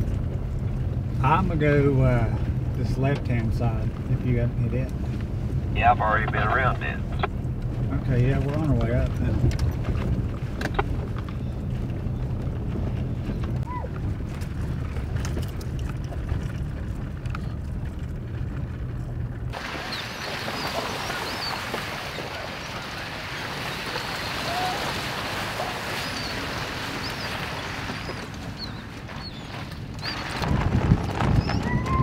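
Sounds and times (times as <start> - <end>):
truck engine and road noise: 0.0 - 32.0.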